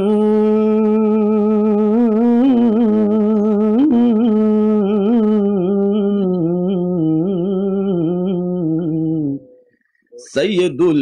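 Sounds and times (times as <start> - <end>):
person singing unaccompanied: 0.0 - 9.6.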